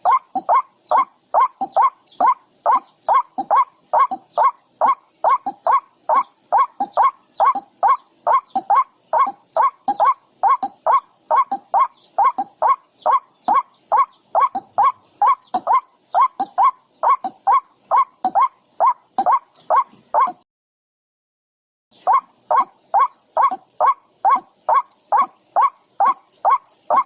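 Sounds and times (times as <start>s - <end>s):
animal harsh cries: 0.0s - 20.4s, 22.0s - 27.0s.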